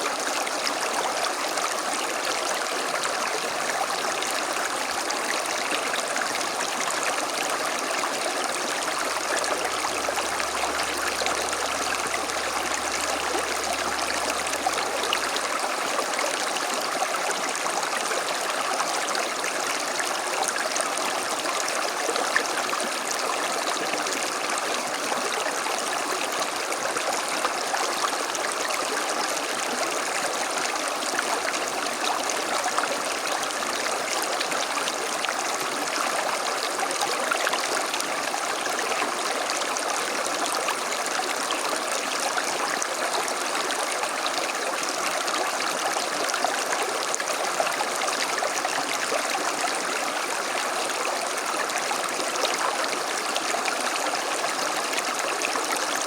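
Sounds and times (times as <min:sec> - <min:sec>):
creek flowing over stones: 0:00.0 - 0:56.0.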